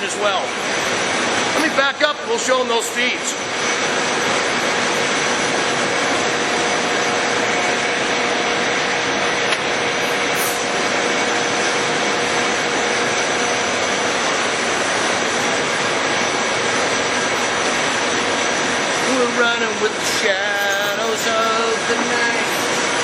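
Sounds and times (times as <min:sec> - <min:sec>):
lathe spindle whirring: 0:00.0 - 0:23.0.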